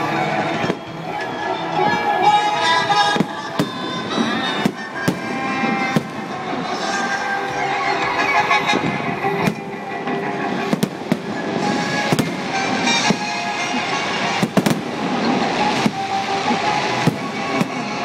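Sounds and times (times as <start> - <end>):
music playing: 0.0 - 18.0.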